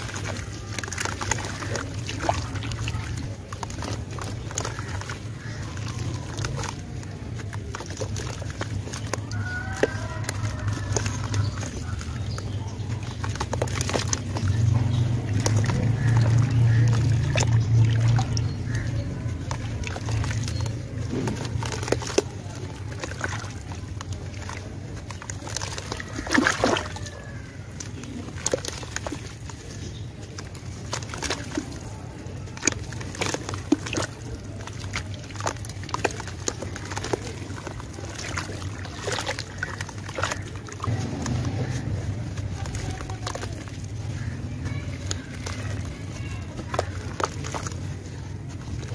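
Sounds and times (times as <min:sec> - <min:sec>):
hands squelching through mud: 0:00.0 - 0:48.9
wet splats and clicks: 0:00.0 - 0:48.9.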